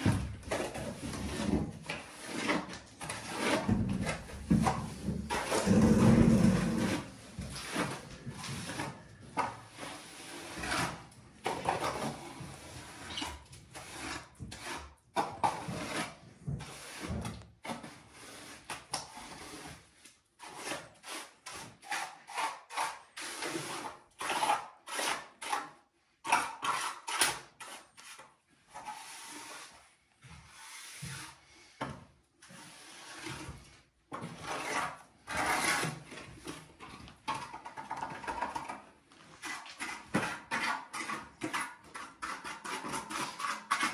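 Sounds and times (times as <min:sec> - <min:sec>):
hand tool scraping: 0:00.0 - 0:43.9.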